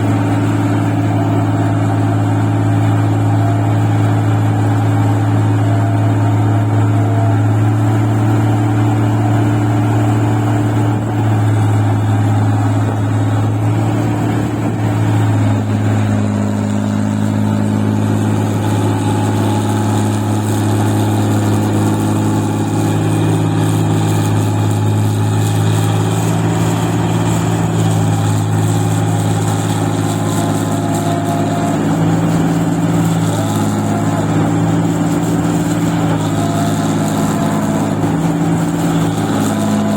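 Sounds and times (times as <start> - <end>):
machine engine under load: 0.0 - 39.9.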